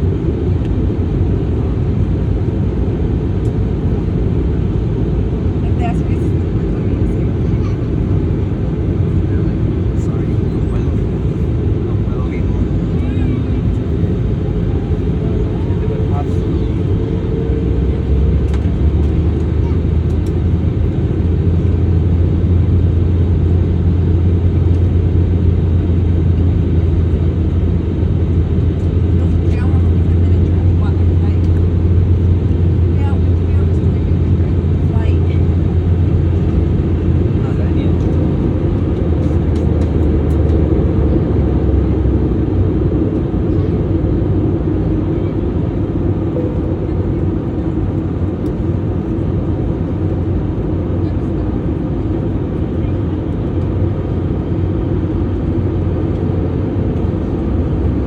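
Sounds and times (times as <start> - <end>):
jet engine cabin drone: 0.0 - 58.0
low hum: 0.0 - 58.0.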